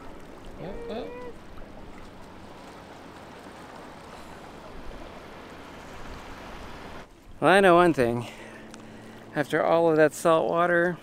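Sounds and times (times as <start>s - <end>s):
waves lapping at rocky shore: 0.0s - 11.0s.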